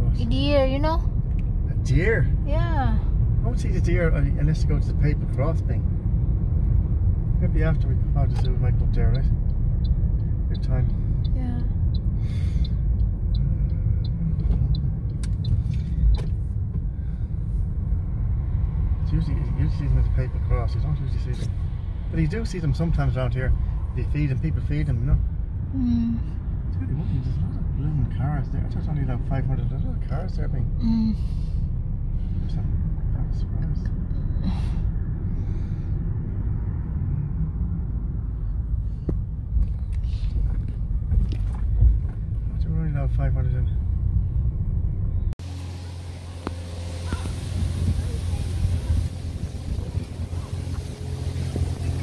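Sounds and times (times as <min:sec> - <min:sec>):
car cabin road and engine rumble: 0:00.0 - 0:52.0.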